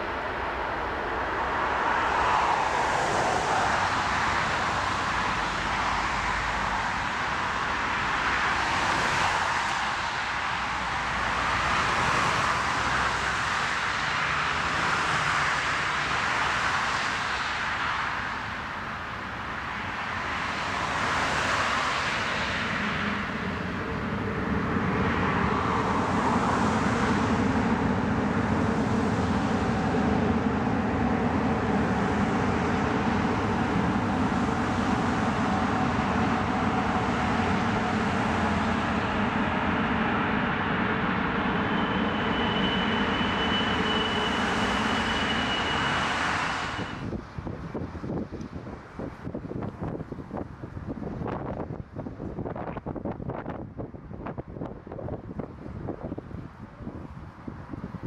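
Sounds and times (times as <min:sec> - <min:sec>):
aircraft landing on wet runway: 0:00.0 - 0:58.0
jet engine drone: 0:00.0 - 0:58.0.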